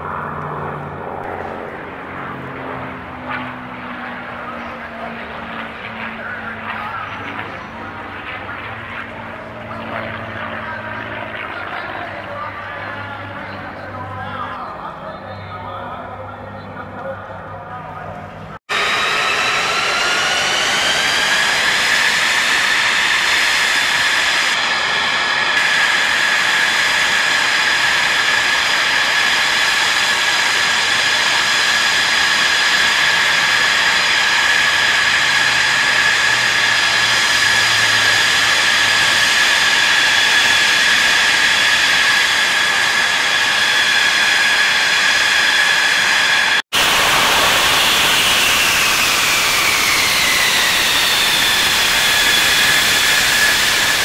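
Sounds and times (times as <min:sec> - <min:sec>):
jet engine idling whine: 0:00.0 - 0:54.0.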